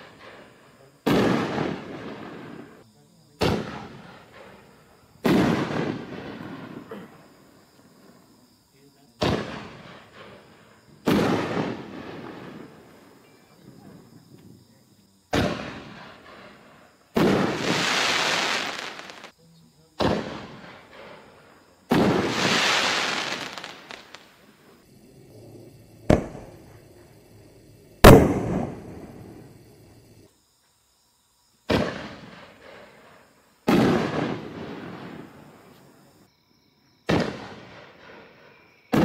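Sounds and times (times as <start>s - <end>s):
firework shells booming: 0.0s - 2.8s, 3.4s - 8.2s, 9.1s - 14.6s, 15.3s - 19.3s, 20.0s - 25.0s, 25.7s - 30.2s, 31.6s - 36.0s, 37.0s - 39.0s.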